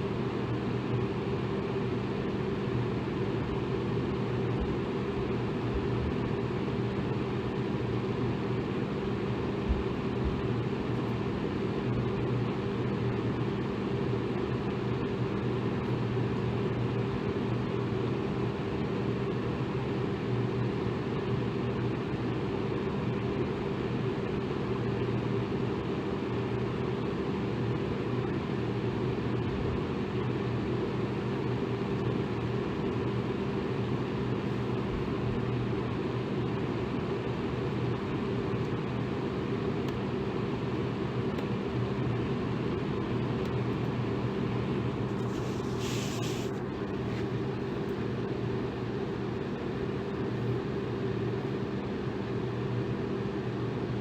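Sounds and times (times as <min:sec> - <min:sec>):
electric fan running: 0:00.0 - 0:54.0.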